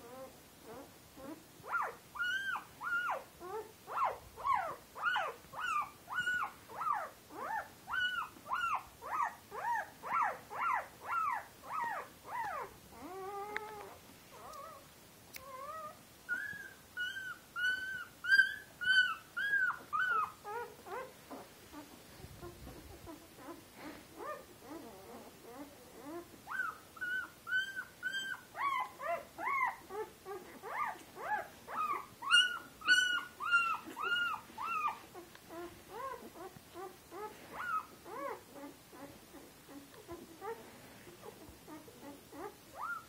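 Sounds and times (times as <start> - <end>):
puppies whimpering and squealing: 0.0 - 14.8, 15.4 - 43.0.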